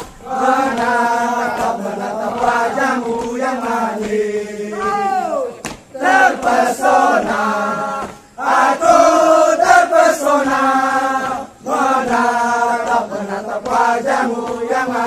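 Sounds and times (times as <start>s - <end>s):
men chanting in unison: 0.0s - 15.0s.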